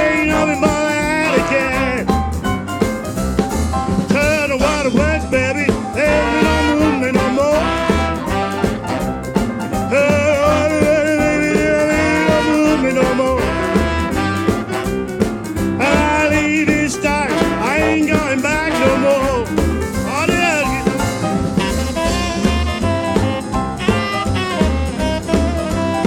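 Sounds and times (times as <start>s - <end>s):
horn solo: 0.0s - 2.5s, 4.1s - 26.0s
bass and drum beat: 0.0s - 26.0s.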